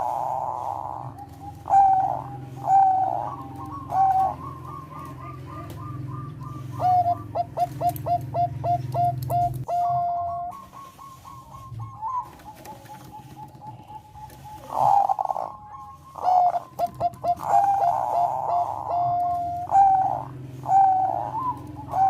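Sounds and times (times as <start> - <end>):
dove cooing: 0.0 - 22.0
steady low hum: 0.0 - 22.0.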